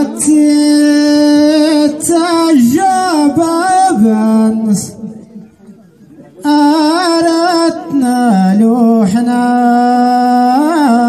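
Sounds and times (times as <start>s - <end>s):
man chanting into a microphone: 0.0s - 5.5s, 6.4s - 11.0s.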